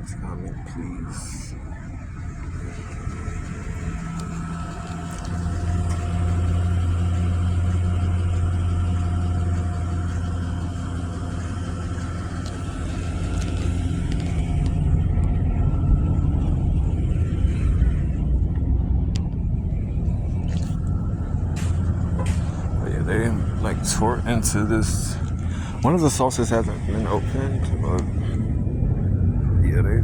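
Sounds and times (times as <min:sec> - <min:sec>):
faint steady whine: 0:00.0 - 0:30.0
vehicle engine low rumble: 0:00.0 - 0:30.0.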